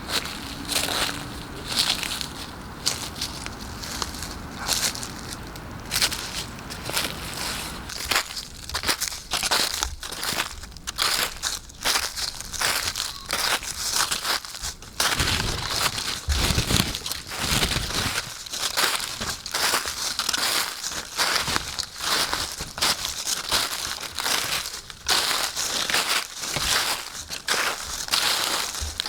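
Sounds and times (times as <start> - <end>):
footsteps crunching dry leaves: 0.0 - 29.0.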